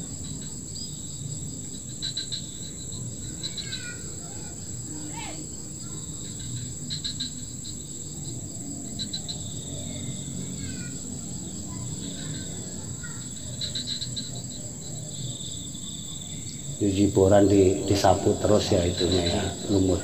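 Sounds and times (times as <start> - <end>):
insects trilling: 0.0 - 20.0
low outdoor hum: 0.0 - 20.0.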